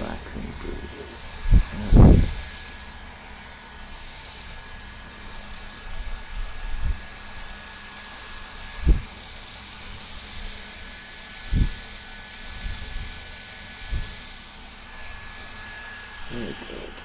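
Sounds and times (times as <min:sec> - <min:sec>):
mini fan whirring: 0:00.0 - 0:17.0.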